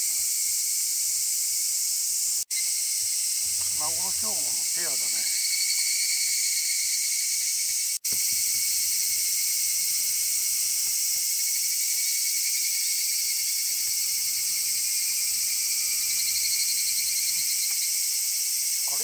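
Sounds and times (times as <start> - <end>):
cicada chorus: 0.0 - 19.0.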